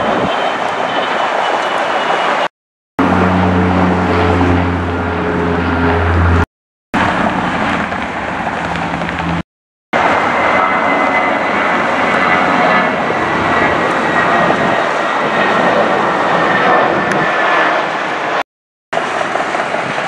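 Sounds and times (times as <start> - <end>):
airliner engines roaring: 0.0 - 9.4, 10.0 - 20.0
high engine whine: 0.0 - 9.4, 10.0 - 18.4.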